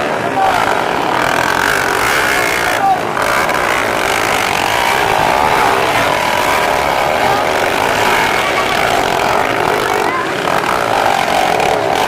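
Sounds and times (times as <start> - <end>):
motorcycle engines racing: 0.0 - 12.0.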